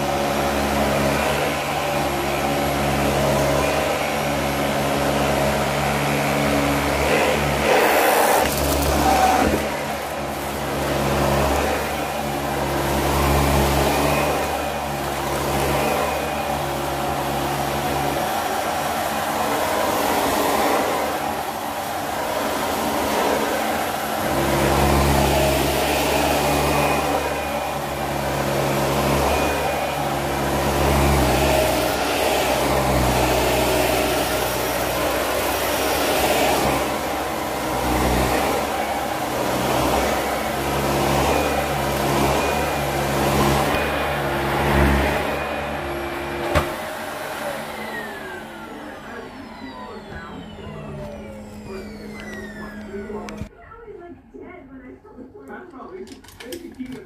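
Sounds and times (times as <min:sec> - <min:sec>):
vacuum cleaner on carpet: 0:00.0 - 0:53.5.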